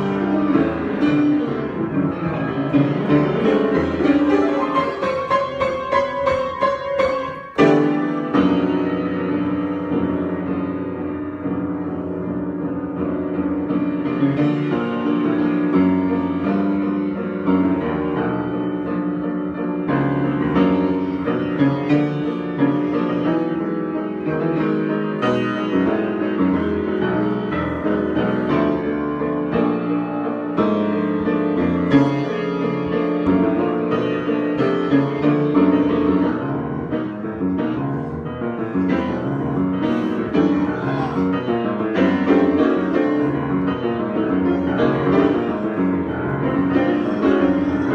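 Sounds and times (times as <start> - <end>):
piano improvisation: 0.0 - 47.9.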